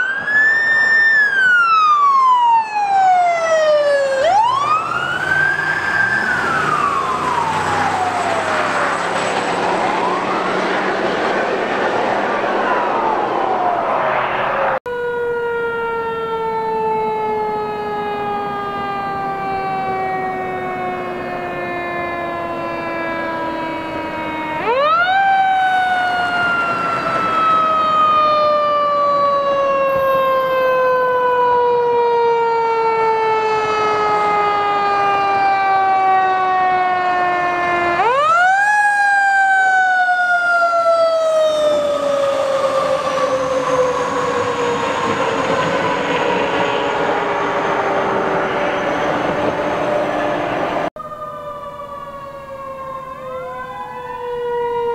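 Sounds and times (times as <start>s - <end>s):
mechanical siren wailing: 0.0s - 54.9s.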